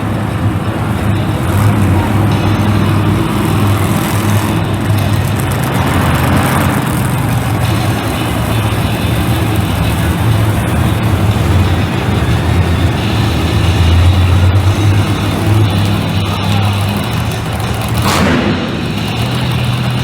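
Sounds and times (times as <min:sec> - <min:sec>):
monster truck engine running: 0:00.0 - 0:20.0.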